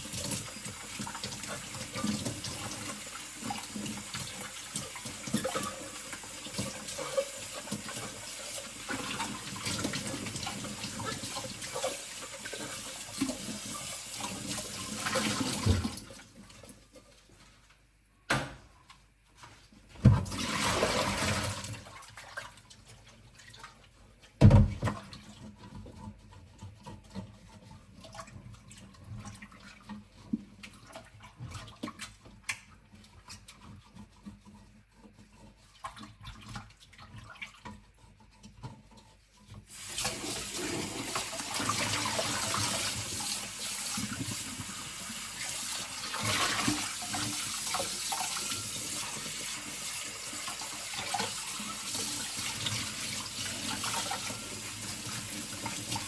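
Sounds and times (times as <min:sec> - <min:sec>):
tap water running: 0:00.0 - 0:18.4, 0:19.4 - 0:56.0.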